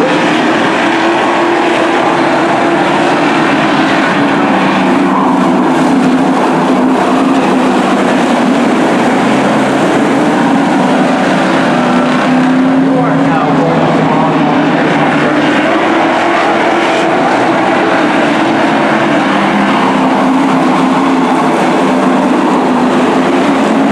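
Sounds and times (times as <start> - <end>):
race truck engines: 0.0 - 23.9.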